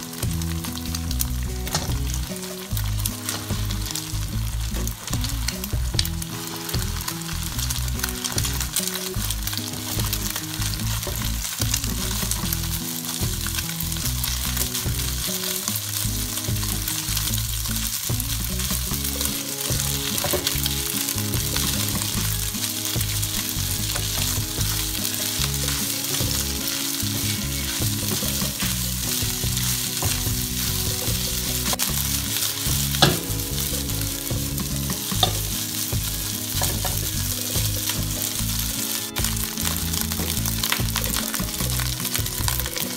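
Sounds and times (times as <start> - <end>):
rice sizzling in a wok: 0.0 - 42.9
spatula scraping a wok: 0.6 - 42.9.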